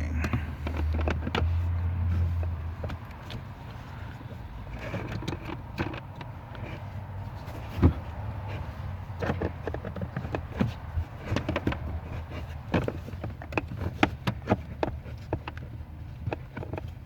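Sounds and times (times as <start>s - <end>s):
plastic scraping and clicking: 0.2s - 17.0s.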